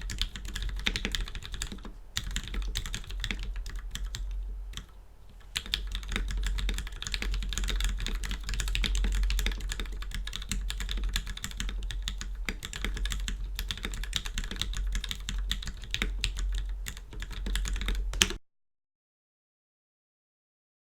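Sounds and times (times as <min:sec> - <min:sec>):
fast mechanical keyboard typing: 0:00.0 - 0:18.4
steady low hum: 0:00.0 - 0:18.4.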